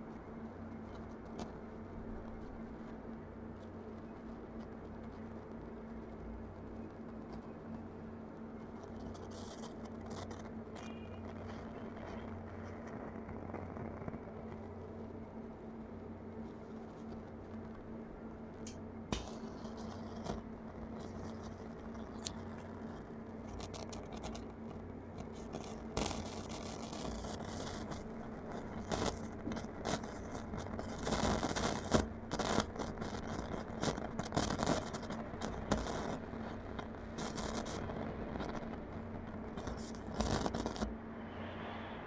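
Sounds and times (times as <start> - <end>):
scratchy crackle from loudspeaker: 0.0 - 41.0
steady low hum: 0.0 - 42.0.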